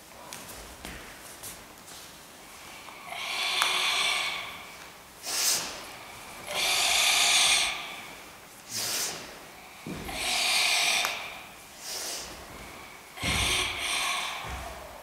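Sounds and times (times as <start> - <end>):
forceful hissing breaths: 2.4 - 15.0.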